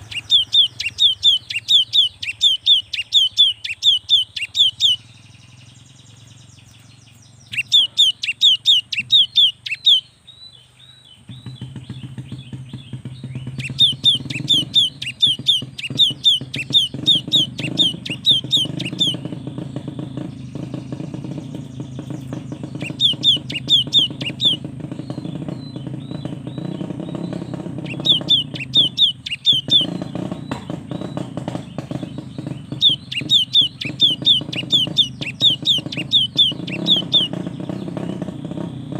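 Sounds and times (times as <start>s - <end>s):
bird singing high repeated notes: 0.0s - 38.9s
soft bird calls: 0.0s - 38.9s.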